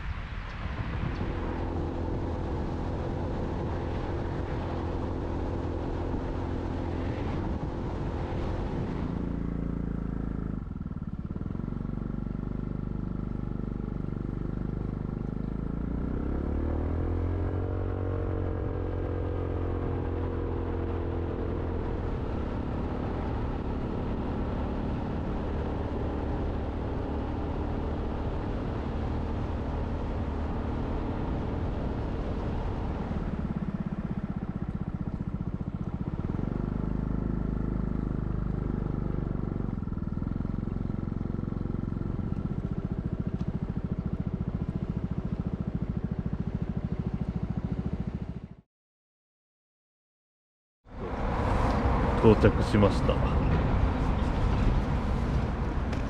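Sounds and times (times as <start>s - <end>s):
motorcycle engine running: 1.0s - 48.6s.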